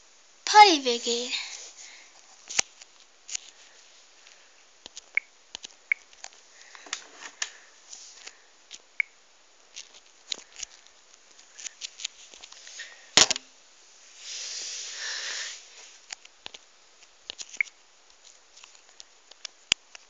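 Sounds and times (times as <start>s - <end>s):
rustling hiss: 0.0s - 20.0s.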